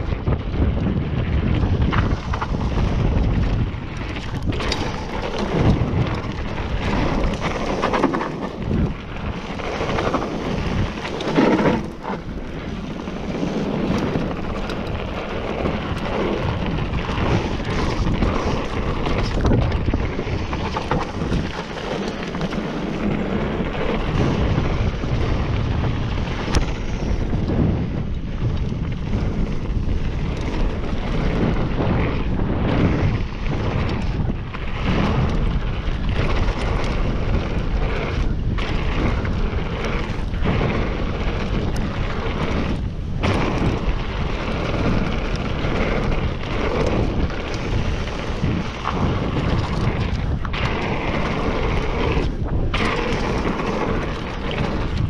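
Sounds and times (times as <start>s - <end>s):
bike knocks and rattles: 0.0s - 55.0s
tyres rolling over dirt and rocks: 0.0s - 55.0s
wind buffeting on microphone: 0.0s - 55.0s.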